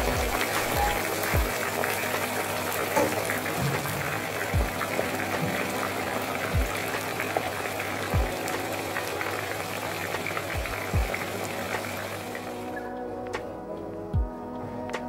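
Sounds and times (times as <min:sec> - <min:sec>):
fries sizzling in hot oil: 0:00.2 - 0:12.8.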